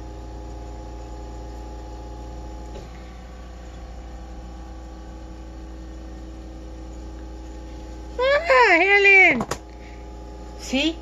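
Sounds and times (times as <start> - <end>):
low hum with constant tones: 0.0 - 11.0.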